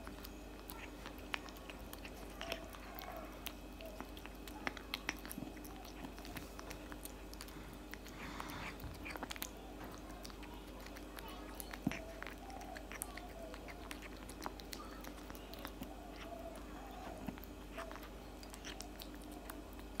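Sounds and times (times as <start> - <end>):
cat chewing wet food: 0.0 - 20.0.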